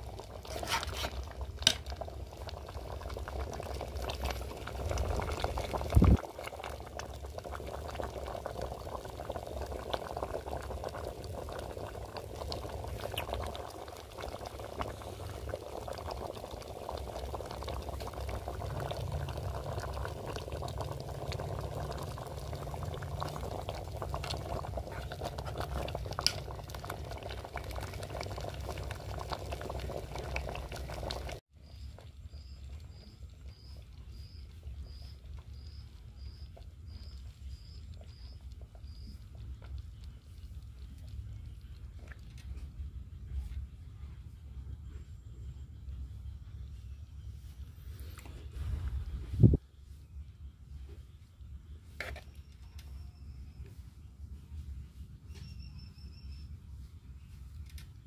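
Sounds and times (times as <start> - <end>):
stew bubbling in a pot: 0.0 - 58.0.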